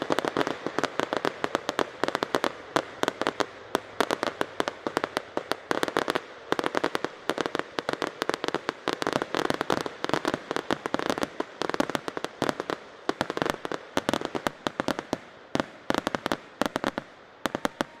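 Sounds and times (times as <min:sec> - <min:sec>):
fireworks banging: 0:00.0 - 0:18.0
fireworks crackling: 0:00.0 - 0:18.0.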